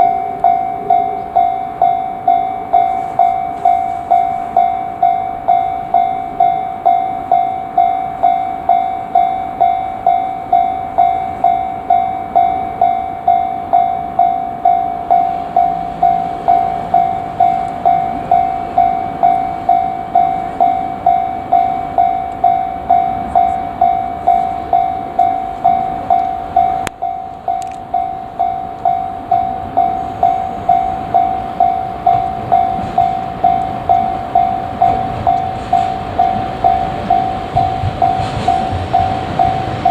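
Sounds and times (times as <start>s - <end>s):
freight train rumble: 0.0s - 39.9s
level-crossing bell ringing: 0.0s - 39.9s.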